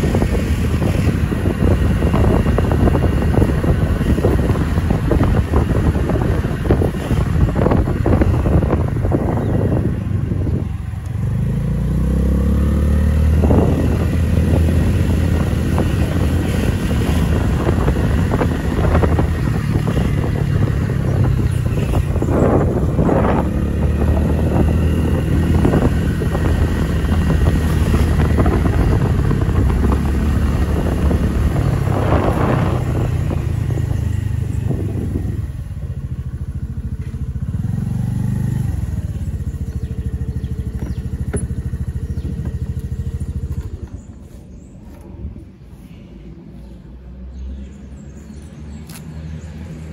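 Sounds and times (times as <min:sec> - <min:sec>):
motorcycle engine running: 0:00.0 - 0:45.4
wind noise: 0:00.0 - 0:47.0
road noise: 0:00.0 - 0:49.9.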